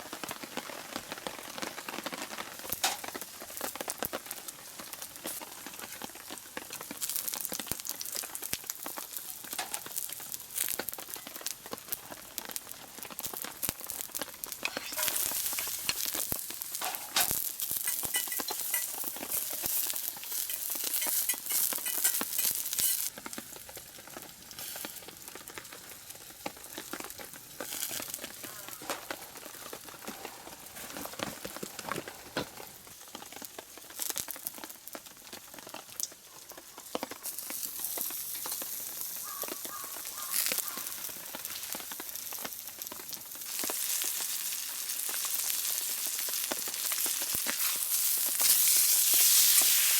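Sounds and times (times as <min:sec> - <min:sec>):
steak sizzling and crackling: 0:00.0 - 0:49.9.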